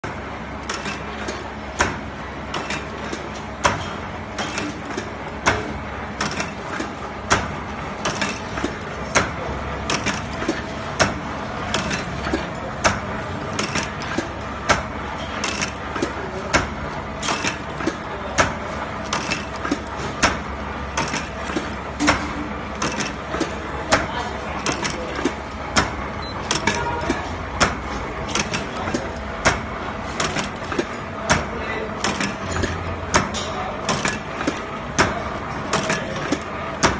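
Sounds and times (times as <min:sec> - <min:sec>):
machine motor hum: 0:00.0 - 0:36.9.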